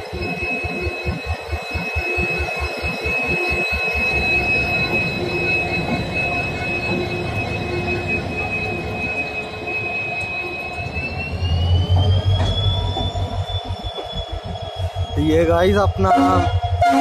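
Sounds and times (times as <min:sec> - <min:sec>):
locomotive engine whine: 0:00.0 - 0:17.0
wheels rumbling on rail: 0:00.0 - 0:17.0.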